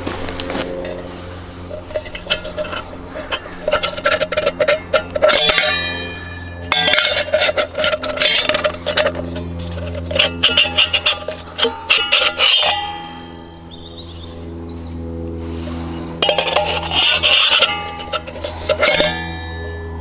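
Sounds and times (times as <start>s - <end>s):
metallic ringing: 0.8s - 14.4s, 15.4s - 20.0s
metal parts clinking and knocking: 1.7s - 13.4s, 15.6s - 19.9s.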